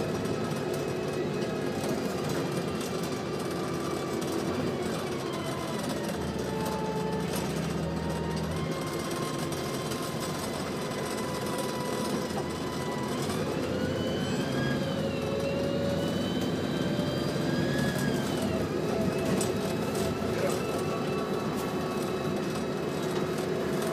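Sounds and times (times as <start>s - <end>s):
automatic gearbox whine: 0.0s - 23.9s
bus diesel engine running: 0.0s - 23.9s.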